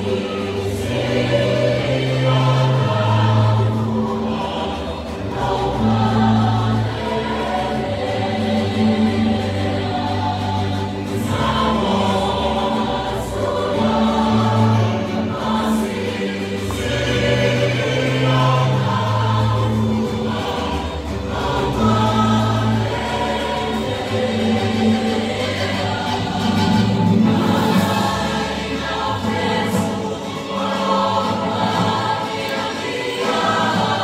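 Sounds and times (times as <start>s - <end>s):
choir singing sustained chords: 0.0s - 34.0s.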